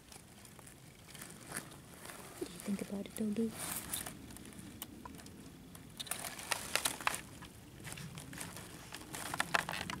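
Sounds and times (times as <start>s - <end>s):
grass and dry stems rustling: 0.0s - 10.0s.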